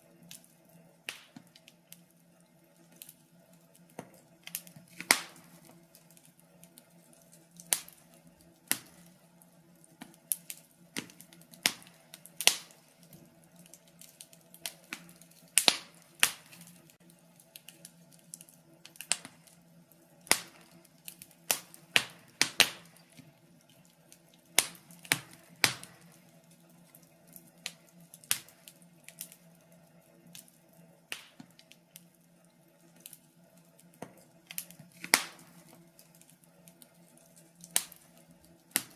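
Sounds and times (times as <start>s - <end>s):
logs crackling in fireplace: 0.0s - 38.9s.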